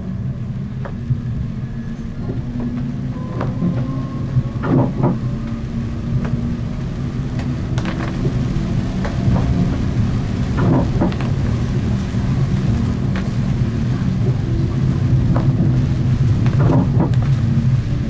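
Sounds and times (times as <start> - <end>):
rain: 0.0 - 18.0
tram drive humming: 0.0 - 18.0
wheels knocking on rails: 0.8 - 18.0.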